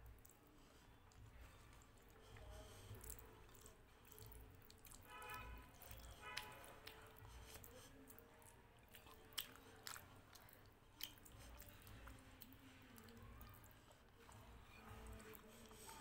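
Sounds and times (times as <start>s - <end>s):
chewing and wet mouth noises: 0.0s - 16.0s
fingers squishing food: 0.0s - 16.0s.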